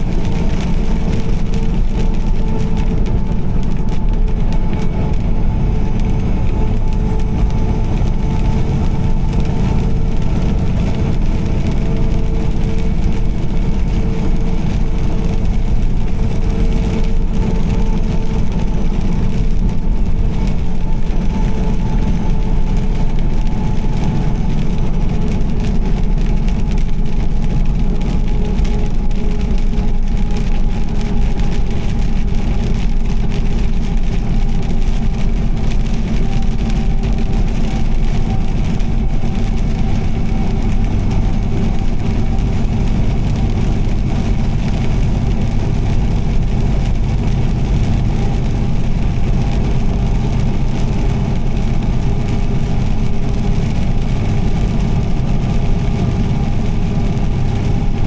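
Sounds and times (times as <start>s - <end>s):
car engine and road rumble: 0.0s - 58.0s
tyres hissing on wet road: 0.0s - 58.0s.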